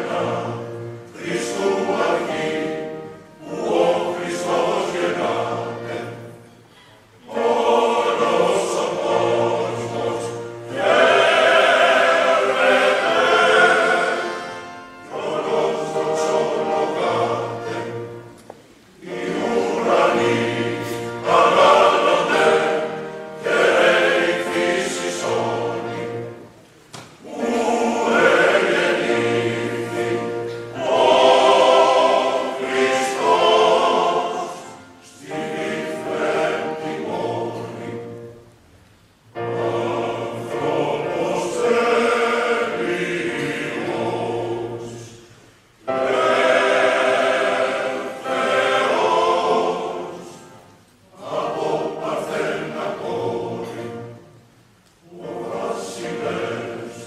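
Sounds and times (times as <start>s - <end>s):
choir singing: 0.0s - 38.5s, 39.3s - 57.0s.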